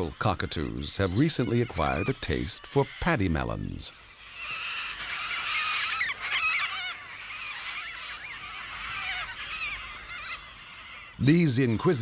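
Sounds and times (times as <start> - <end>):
flock of cockatoos calling: 0.0 - 11.9.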